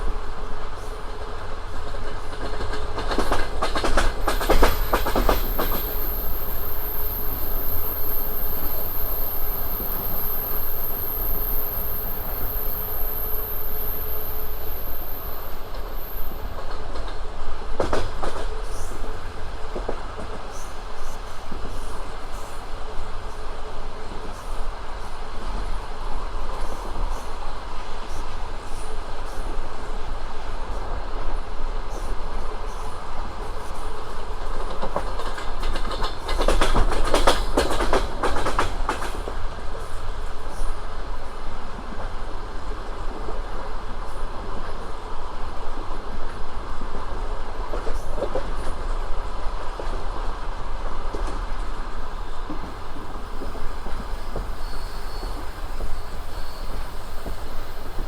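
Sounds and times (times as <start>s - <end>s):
dense train clatter: 0.0s - 58.0s
rumble of wheels on track: 0.0s - 58.0s
clickety-clack over rail joints: 0.6s - 6.7s, 15.2s - 58.0s.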